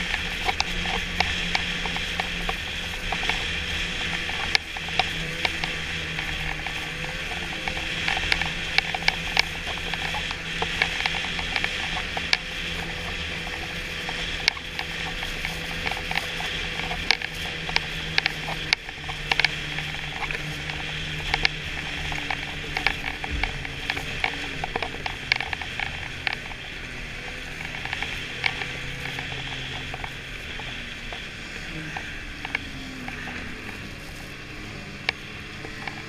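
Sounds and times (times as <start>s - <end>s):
sharp clicks and rattles: 0.0s - 36.0s
snowmobile engine drone: 0.0s - 36.0s.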